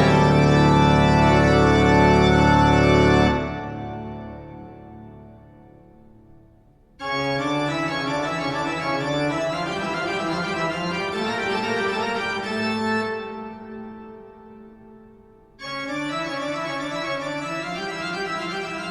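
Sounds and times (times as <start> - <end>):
spooky organ chords: 0.0 - 5.6, 7.0 - 14.9, 15.6 - 18.9.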